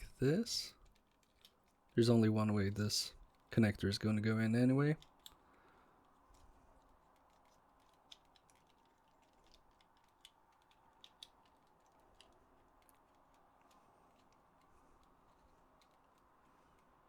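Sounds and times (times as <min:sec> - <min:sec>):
small plastic parts clicking: 0:00.7 - 0:02.0, 0:03.1 - 0:03.6, 0:04.9 - 0:17.0.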